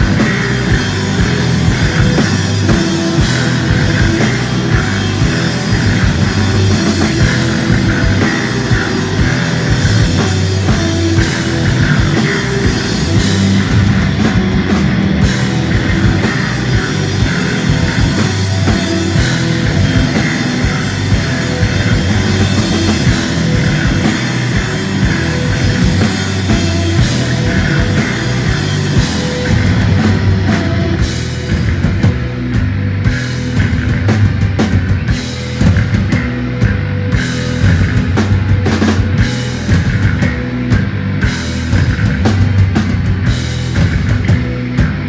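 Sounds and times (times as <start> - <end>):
heavy drum hits: 0.0 - 45.0
rock band playing live: 0.0 - 45.0.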